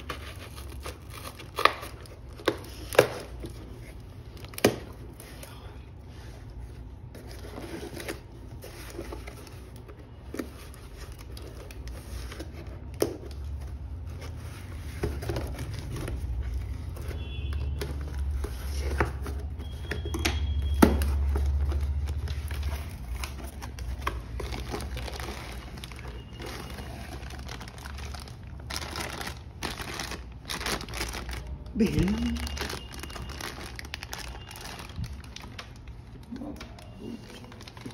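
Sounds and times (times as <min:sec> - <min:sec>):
plastic and paper crinkling: 0:00.0 - 0:37.9.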